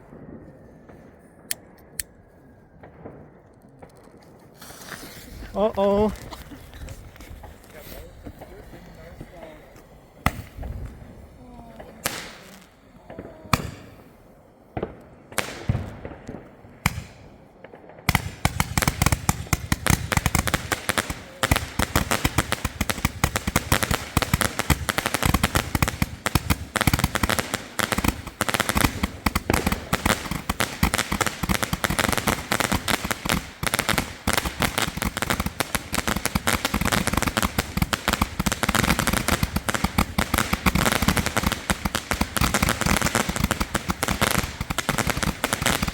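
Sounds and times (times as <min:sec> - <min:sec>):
fireworks bangs and crackling: 0:02.7 - 0:45.9.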